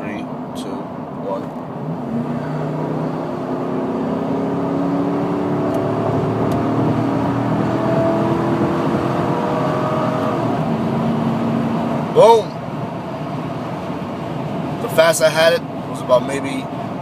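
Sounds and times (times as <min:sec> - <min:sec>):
pickup engine accelerating hard: 0:01.2 - 0:17.0.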